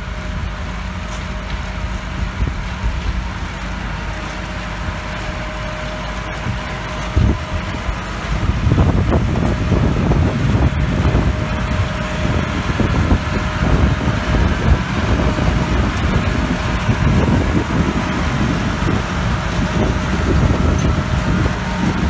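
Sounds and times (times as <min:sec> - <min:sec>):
diesel engine rumble: 0:00.0 - 0:22.0
harvester machinery running: 0:00.0 - 0:22.0.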